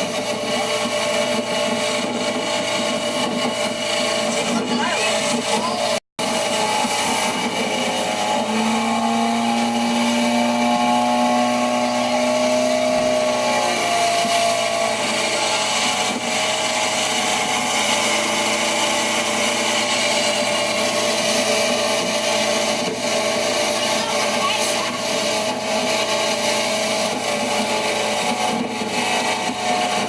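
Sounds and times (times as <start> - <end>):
motorboat engine humming: 0.0 - 30.0
wind and water rushing: 0.0 - 30.0.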